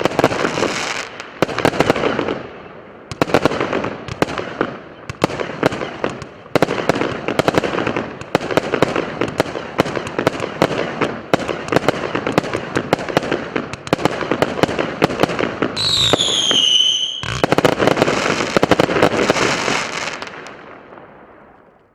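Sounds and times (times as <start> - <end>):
fireworks crackling: 0.0 - 21.7
fireworks launches and bangs: 3.1 - 21.6.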